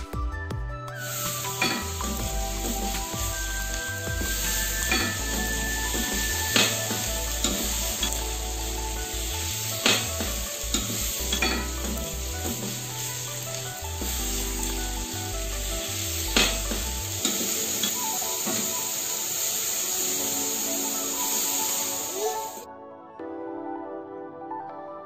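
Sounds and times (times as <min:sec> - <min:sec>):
food sizzling in a wok: 0:01.0 - 0:22.7.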